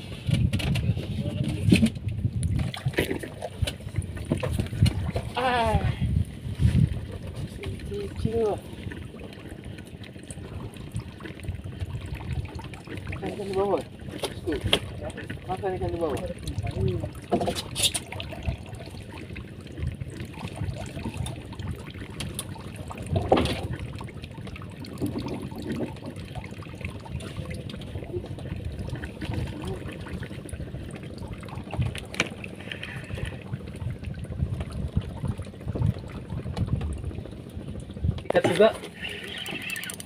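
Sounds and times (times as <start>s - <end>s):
steady low rumble: 0.0s - 17.3s, 18.0s - 39.3s
water lapping against boat: 0.0s - 40.0s.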